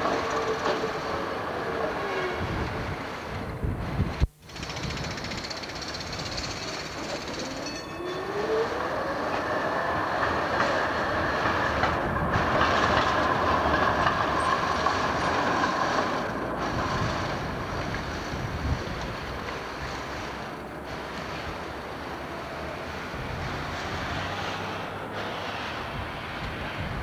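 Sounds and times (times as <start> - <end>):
tram wheels squealing: 0.0 - 2.9, 4.5 - 27.0
tram passing on rails: 0.0 - 27.0.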